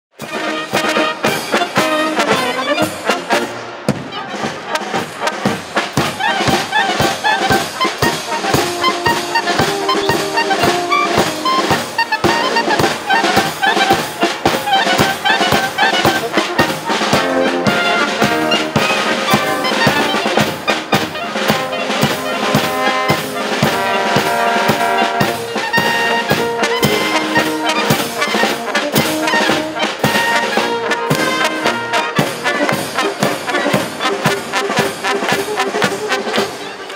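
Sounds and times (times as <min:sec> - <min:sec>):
trumpets: 0:00.1 - 0:36.9
tuba: 0:00.1 - 0:36.9
snare drum: 0:00.2 - 0:36.9.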